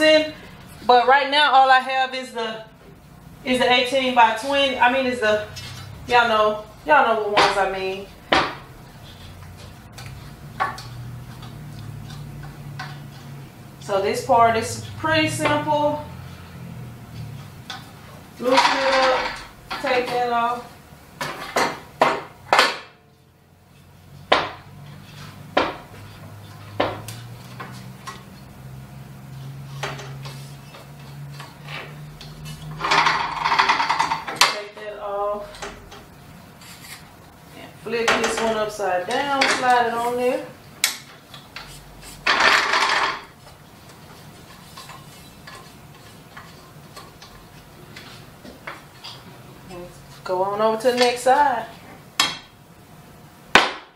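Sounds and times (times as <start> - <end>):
low steady hum: 0.0 - 53.8.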